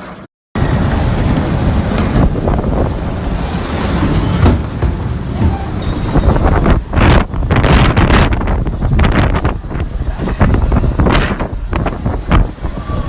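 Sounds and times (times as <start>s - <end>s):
storm wind buffeting microphone: 0.6s - 13.0s.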